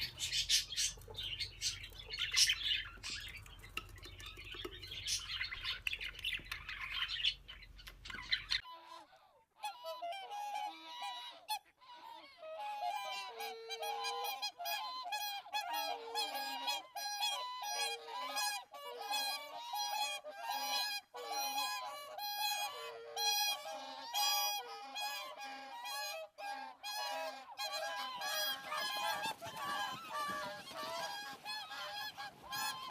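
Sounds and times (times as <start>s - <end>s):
birds honking: 0.0s - 8.6s, 12.6s - 32.9s.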